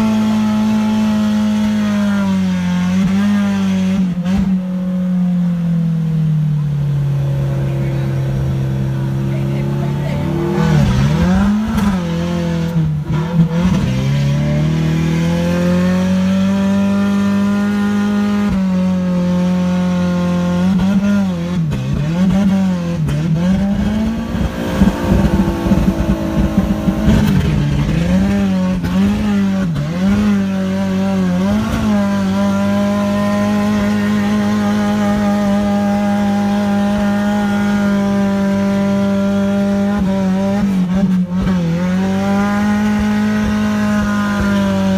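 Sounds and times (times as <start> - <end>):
truck engine revving hard: 0.0 - 4.9, 6.9 - 44.9.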